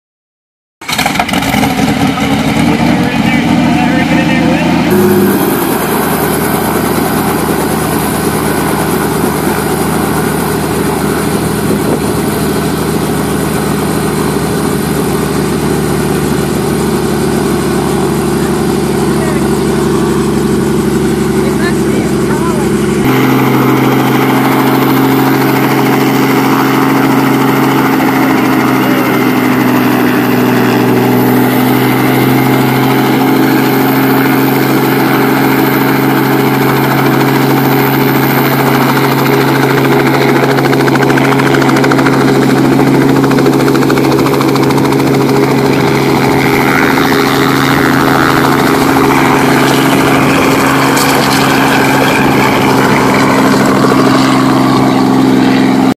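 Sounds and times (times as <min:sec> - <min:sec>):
helicopter engine and rotor drone: 0:01.0 - 0:55.9.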